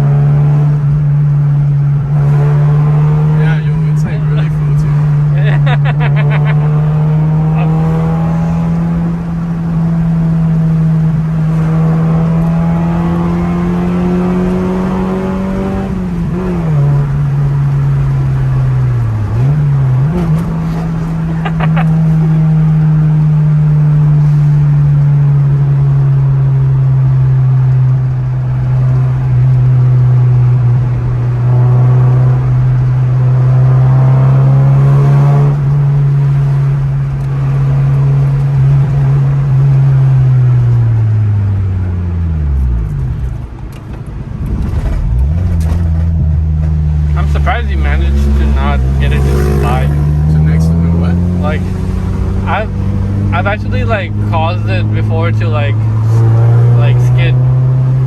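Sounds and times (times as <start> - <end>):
car engine drone: 0.0 - 58.0
road noise: 0.0 - 58.0.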